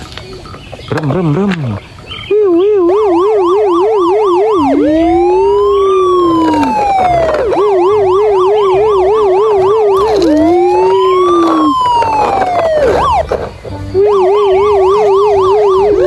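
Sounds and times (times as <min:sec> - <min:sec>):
toy electronic siren: 0:02.3 - 0:16.0.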